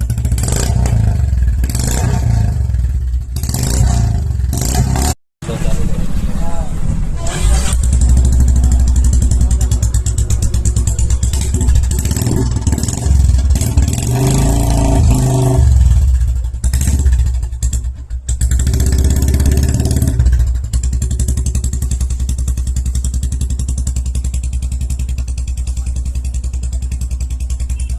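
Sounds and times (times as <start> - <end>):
motorcycle engine throttle blips: 0.0 - 27.9.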